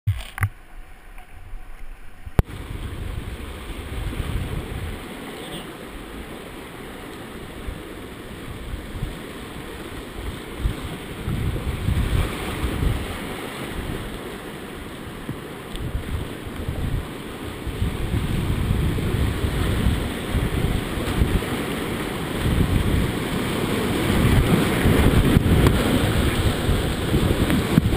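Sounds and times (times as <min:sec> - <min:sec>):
rushing whitewater: 0:02.0 - 0:27.9.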